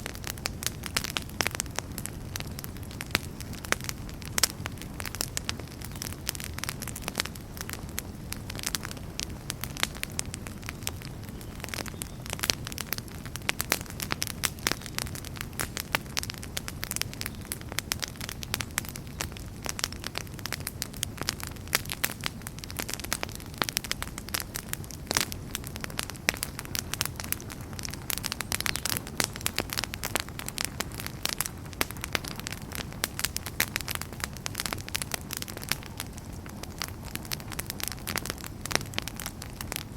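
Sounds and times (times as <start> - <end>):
low rush of flames: 0.0 - 39.9
wood fire crackling: 0.0 - 39.9.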